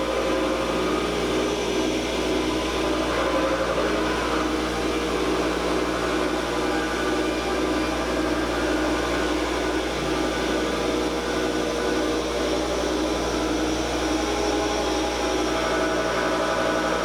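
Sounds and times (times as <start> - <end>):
wood lathe whirring: 0.0 - 17.0.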